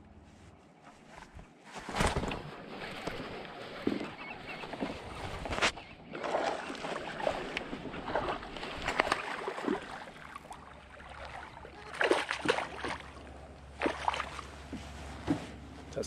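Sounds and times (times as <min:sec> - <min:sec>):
water lapping and splashing: 0:02.0 - 0:16.0.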